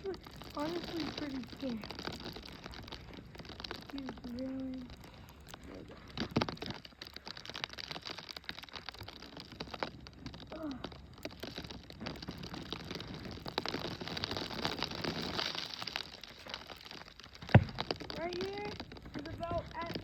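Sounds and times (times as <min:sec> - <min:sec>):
snow crunching: 0:00.0 - 0:20.0.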